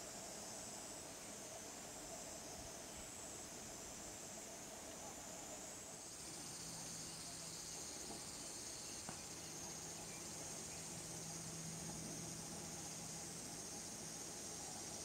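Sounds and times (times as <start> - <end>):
faint low hum: 0.0 - 15.0
insect chorus buzzing: 0.0 - 15.0.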